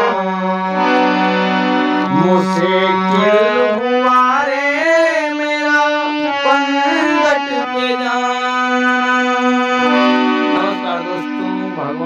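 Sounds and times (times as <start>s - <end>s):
harmonium melody: 0.0s - 12.0s
person singing: 2.0s - 12.0s.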